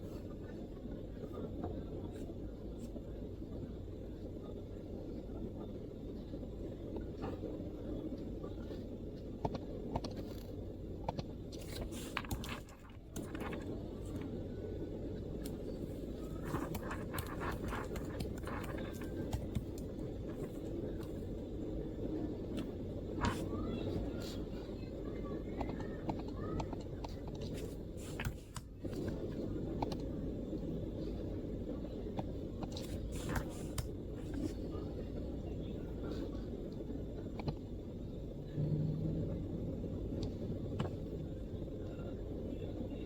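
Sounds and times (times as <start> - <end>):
low background rumble: 0.0 - 43.0.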